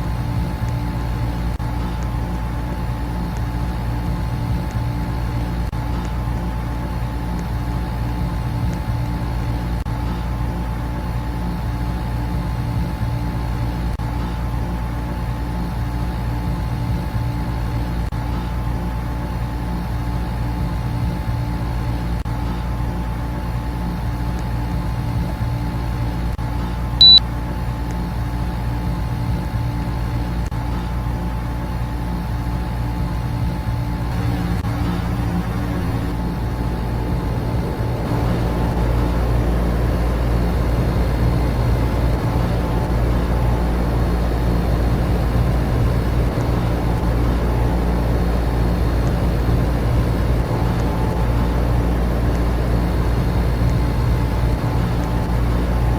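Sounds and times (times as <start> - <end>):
air conditioner and fans humming: 0.0 - 55.9.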